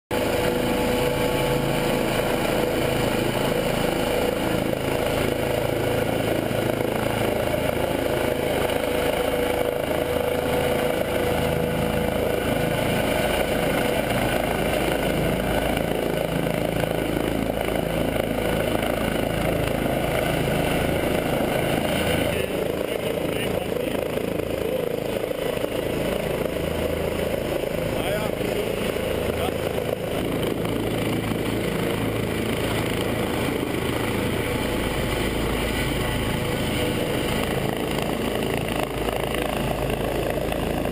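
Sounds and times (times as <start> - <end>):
helicopter hovering: 0.1 - 40.9
steady whine: 0.1 - 40.9.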